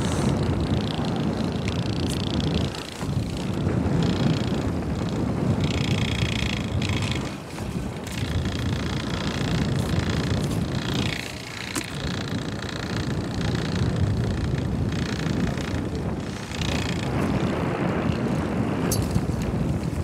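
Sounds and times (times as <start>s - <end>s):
rumbling wind and sea: 0.0s - 20.0s
wind buffeting microphone: 0.0s - 20.0s.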